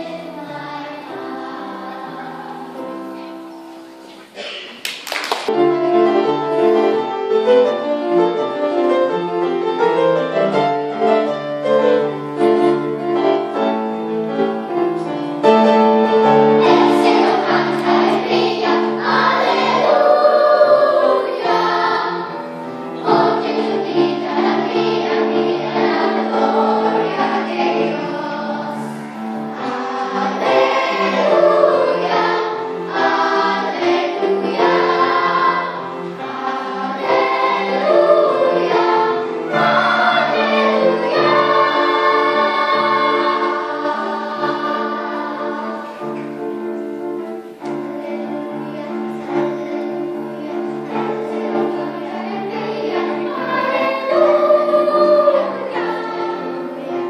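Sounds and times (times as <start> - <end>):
children's choir singing: 0.0 - 57.0
upright piano accompaniment: 0.0 - 57.0.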